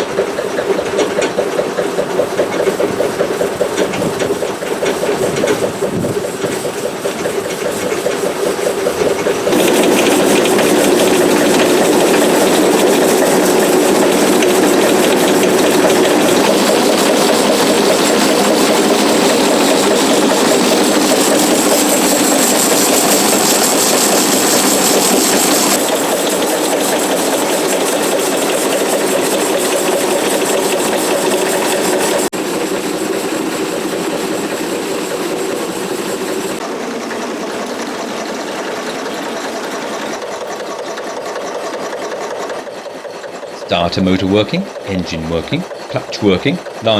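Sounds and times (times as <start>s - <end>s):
stationary engine driving bandsaw: 0.0s - 46.9s.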